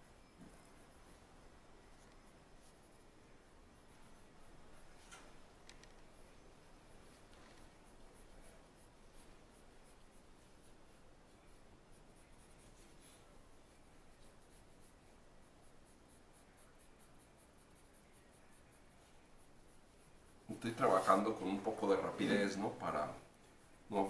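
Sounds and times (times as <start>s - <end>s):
pencil scratching on paper: 0.2s - 24.0s.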